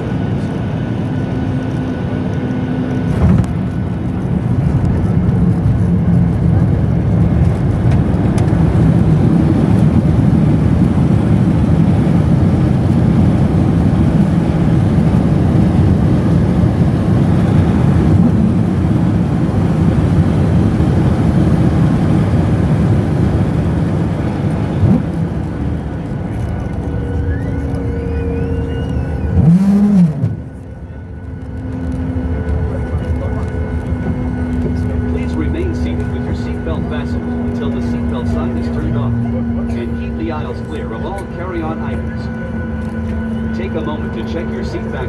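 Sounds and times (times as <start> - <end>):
jet engines and runway rumble: 0.0 - 45.0.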